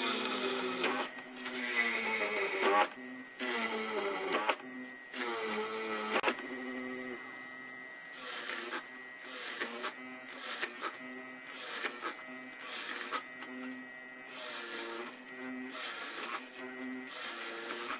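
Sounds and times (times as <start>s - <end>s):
drill press motor whining: 0.0s - 17.9s.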